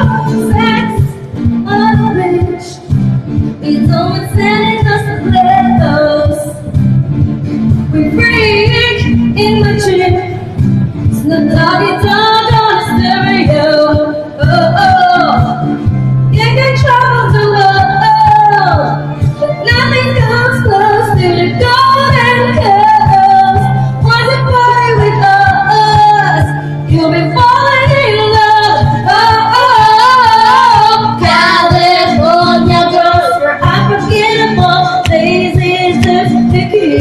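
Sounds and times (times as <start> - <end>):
woman singing into a microphone: 0.0 - 2.9, 3.6 - 6.7, 7.9 - 37.0
karaoke backing track: 0.0 - 37.0.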